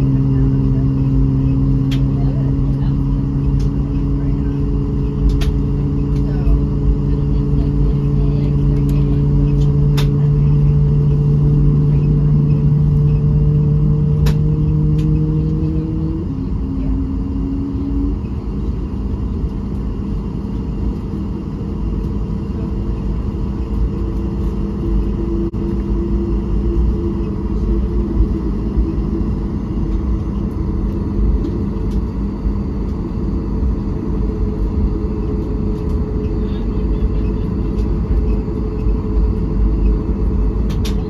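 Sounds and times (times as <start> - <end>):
jet engine cabin rumble: 0.0 - 41.0.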